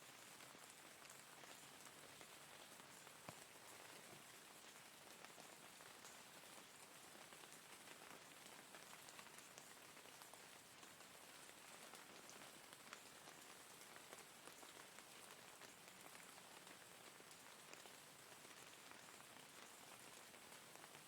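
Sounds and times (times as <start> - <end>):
faint steady rain: 0.0 - 21.0.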